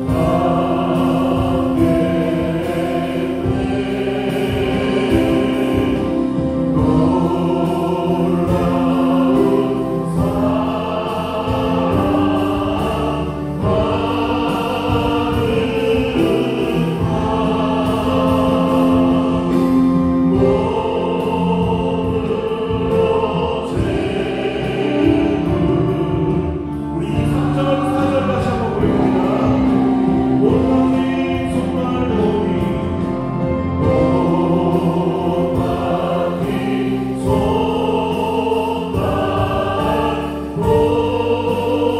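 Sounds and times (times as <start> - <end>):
bass guitar: 0.0 - 41.9
choir singing a hymn: 0.0 - 41.9
drums: 0.0 - 41.9.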